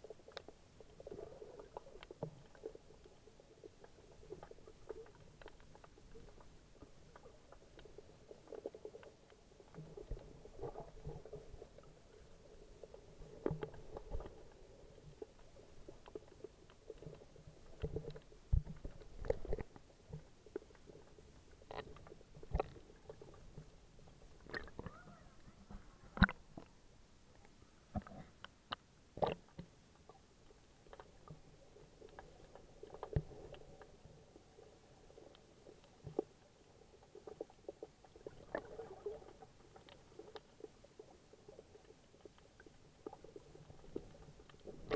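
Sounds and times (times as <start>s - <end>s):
muffled underwater sloshing: 0.0s - 44.9s.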